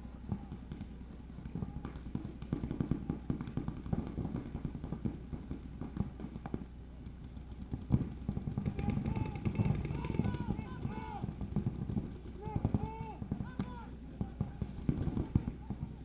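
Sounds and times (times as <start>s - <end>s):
paintball markers firing: 0.2s - 16.0s.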